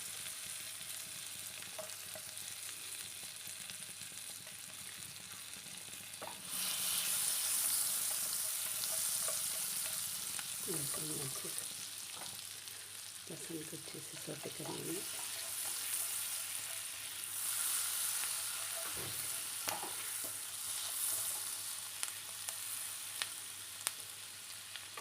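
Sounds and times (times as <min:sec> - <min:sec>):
garlic sizzling in a frying pan: 0:00.0 - 0:25.0.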